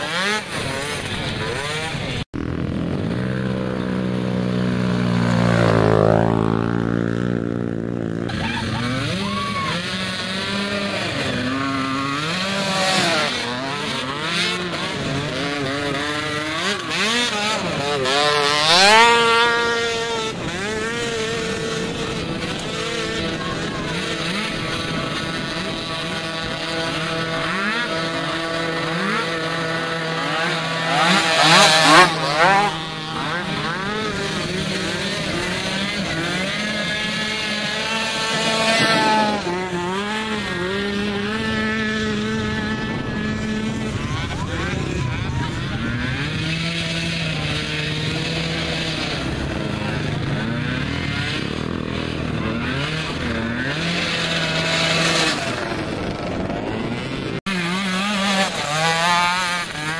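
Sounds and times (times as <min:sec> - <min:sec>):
small quad engines revving: 0:00.0 - 0:59.9.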